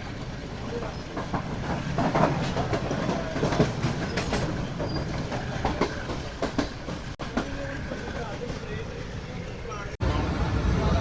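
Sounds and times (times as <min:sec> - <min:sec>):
train coach rumbling on rails: 0:00.0 - 0:11.0.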